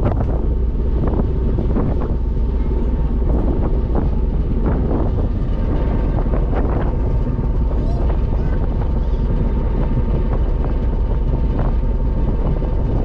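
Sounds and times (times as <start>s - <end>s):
ferry engine rumbling: 0.0s - 13.0s
wind buffeting microphone: 0.0s - 13.0s.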